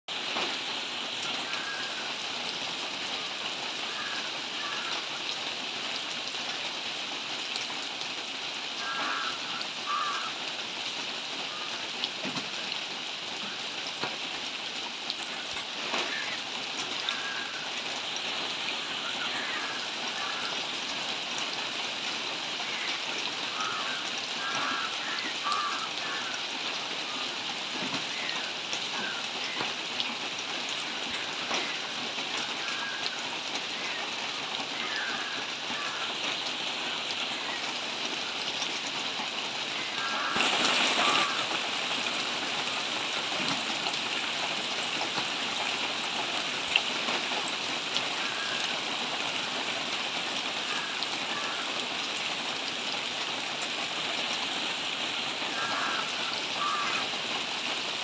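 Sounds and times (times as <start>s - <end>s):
rain on leafy vegetation: 0.1s - 58.0s.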